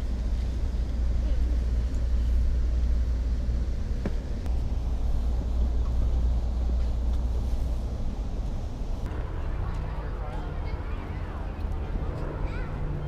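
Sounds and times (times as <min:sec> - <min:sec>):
train rumble from inside: 0:00.0 - 0:13.0.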